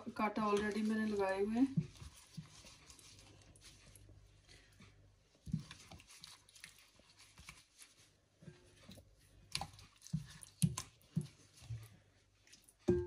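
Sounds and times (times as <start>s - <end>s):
wet squelches of meat in marinade: 0.0s - 12.9s.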